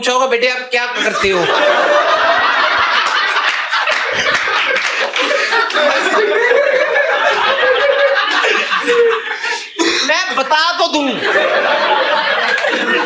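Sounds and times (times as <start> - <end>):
audience laughing: 1.0 - 13.0.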